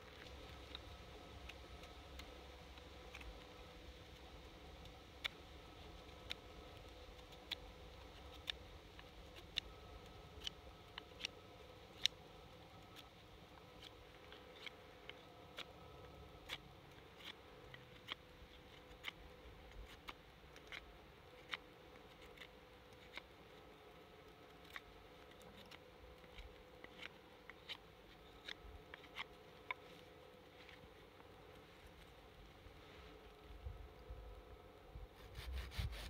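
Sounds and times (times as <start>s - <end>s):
blade carving wood clicks: 0.1s - 29.8s.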